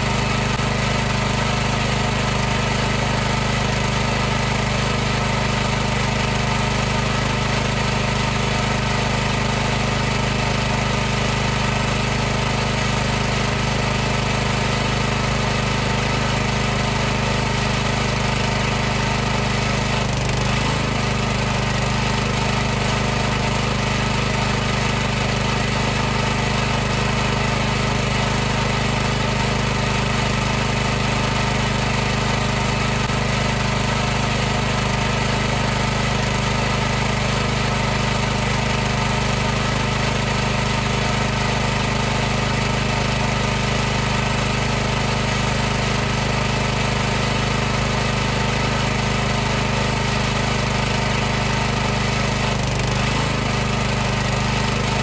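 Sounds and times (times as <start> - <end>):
pressure washer humming: 0.0 - 55.0.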